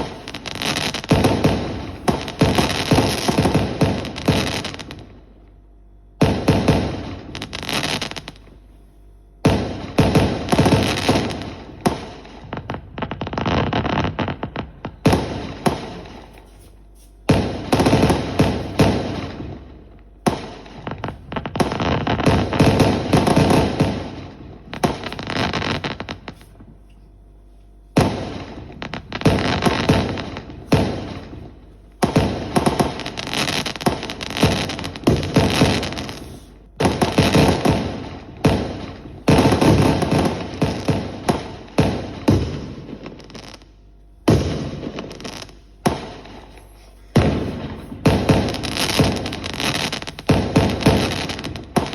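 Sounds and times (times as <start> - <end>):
fireworks bangs and crackling: 0.0 - 5.3, 6.0 - 8.5, 9.4 - 26.9, 27.7 - 51.9.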